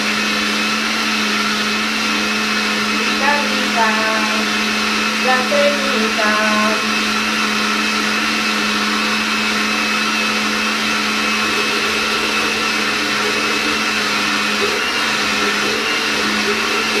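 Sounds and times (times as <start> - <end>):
blender motor running: 0.0 - 17.0.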